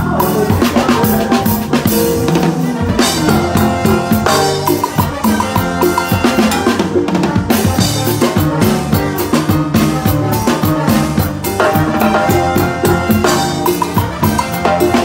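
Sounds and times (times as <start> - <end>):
latin band playing live: 0.0 - 15.0.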